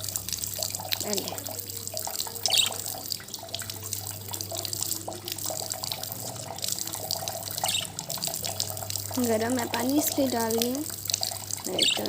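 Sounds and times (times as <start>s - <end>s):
tap water running and splashing: 0.0s - 12.0s.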